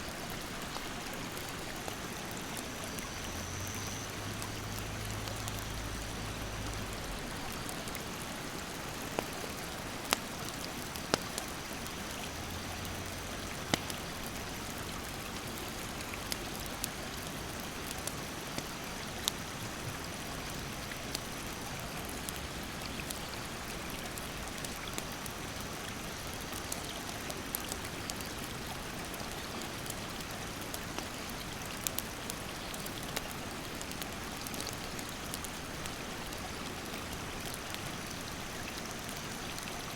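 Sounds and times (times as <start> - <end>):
rushing stream: 0.0 - 3.5, 4.1 - 39.9
campfire crackling: 0.0 - 39.9.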